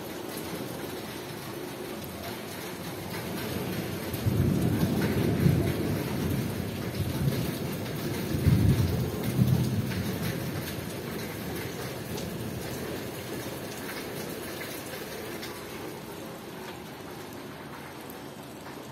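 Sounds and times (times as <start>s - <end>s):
rain falling on pavement and trees: 0.0s - 18.9s.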